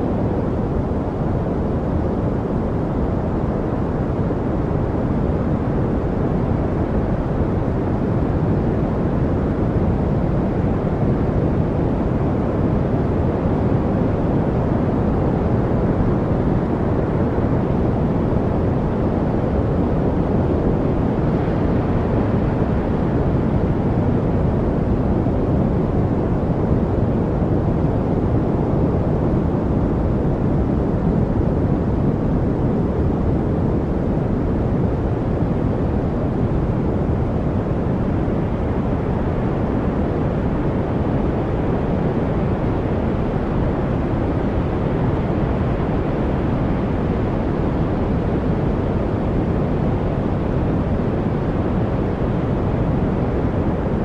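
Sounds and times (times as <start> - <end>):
deep rumbling steady noise: 0.0 - 54.0.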